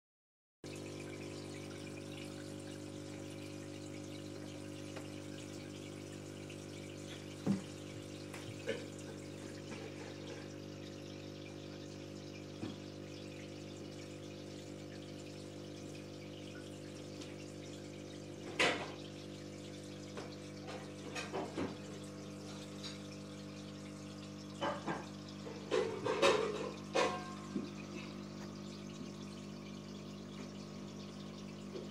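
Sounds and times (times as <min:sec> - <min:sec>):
aquarium pump humming: 0:00.6 - 0:31.9
water trickling: 0:00.6 - 0:31.9.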